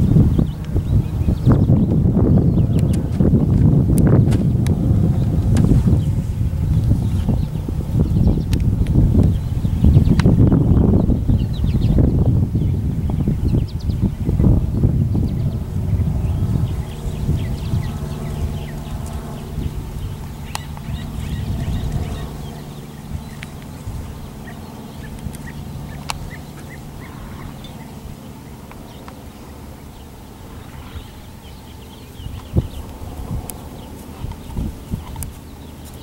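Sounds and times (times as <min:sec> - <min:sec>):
low rumble: 0:00.0 - 0:35.2
birds chirping: 0:00.0 - 0:36.0
wind buffeting microphone: 0:00.0 - 0:36.0.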